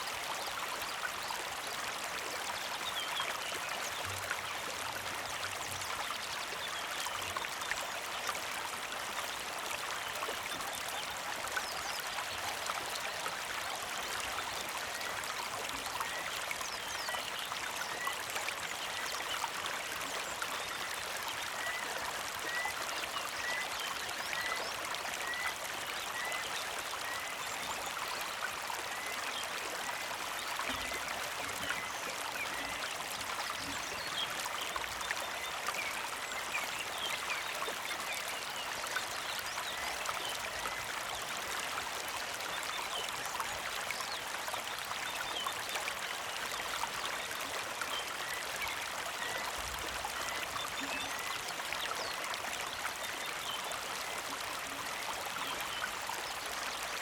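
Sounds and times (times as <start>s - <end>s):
creek trickling over stones: 0.0s - 57.0s.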